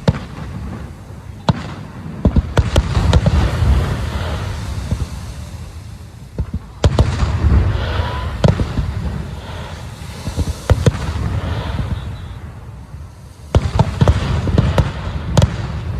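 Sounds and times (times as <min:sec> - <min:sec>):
fireworks sharp bangs: 0:00.0 - 0:15.9
low rolling rumble of bursts: 0:00.0 - 0:15.9.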